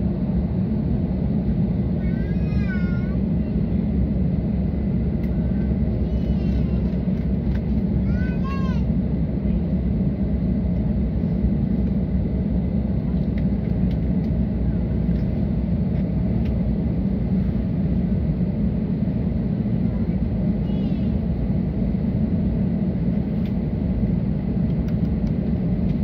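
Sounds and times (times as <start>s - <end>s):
aircraft cabin low rumble: 0.0s - 26.0s.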